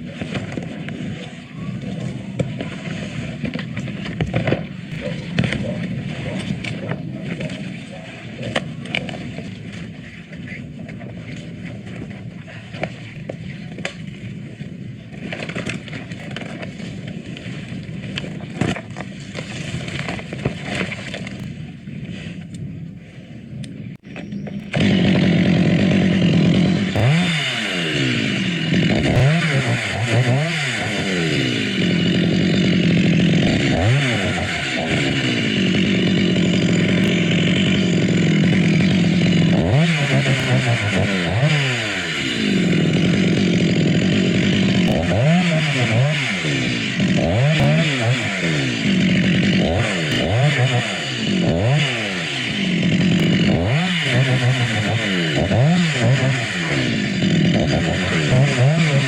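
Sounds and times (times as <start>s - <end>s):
chainsaw engine revving: 0.0s - 21.6s, 24.0s - 59.0s.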